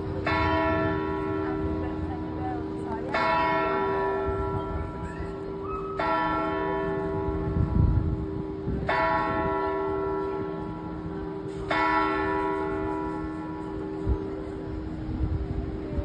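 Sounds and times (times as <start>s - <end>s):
clock tower bell striking: 0.0s - 14.9s.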